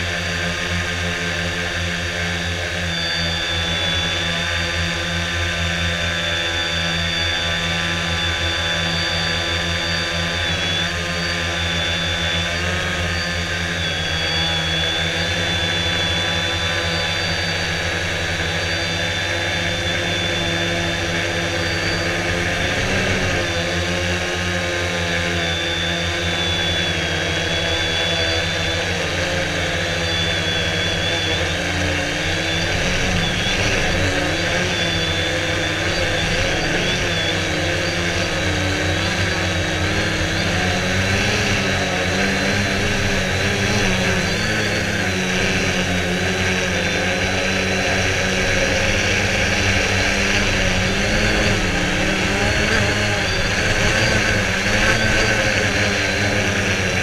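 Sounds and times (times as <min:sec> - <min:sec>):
electric motor hum with high whine: 0:00.0 - 0:57.0.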